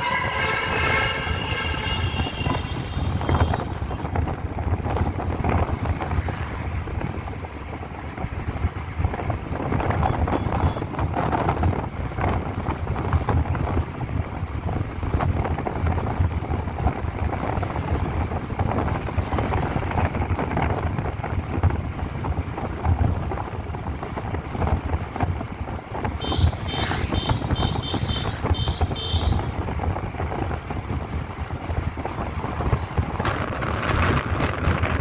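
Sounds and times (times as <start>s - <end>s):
road and traffic noise: 0.0s - 35.0s
wind buffeting microphone: 0.0s - 35.0s.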